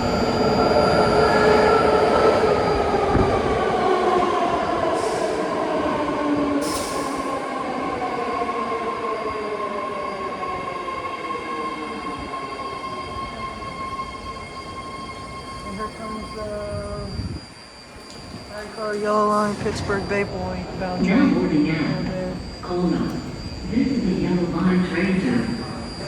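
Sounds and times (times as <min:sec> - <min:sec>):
train motor whine: 0:00.0 - 0:26.0.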